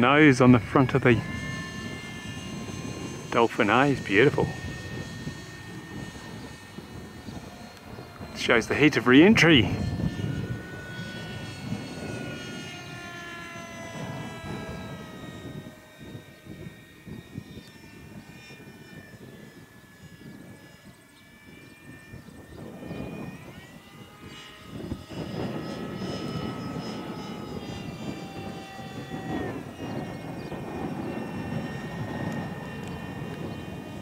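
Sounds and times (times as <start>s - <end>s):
electric ducted fan whine: 0.0s - 34.0s
wind buffeting microphone: 0.0s - 34.0s.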